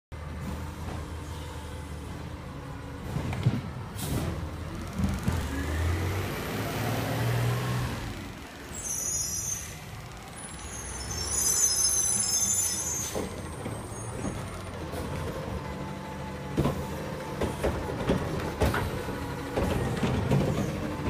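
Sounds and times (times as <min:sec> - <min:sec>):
diesel engine running: 0:00.2 - 0:11.3, 0:13.2 - 0:21.0.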